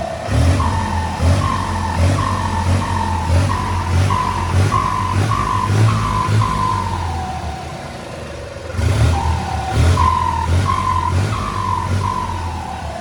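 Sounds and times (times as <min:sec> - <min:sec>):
turbo whistling: 0:00.0 - 0:07.7, 0:08.9 - 0:13.0
engine revving in blips: 0:00.0 - 0:13.0.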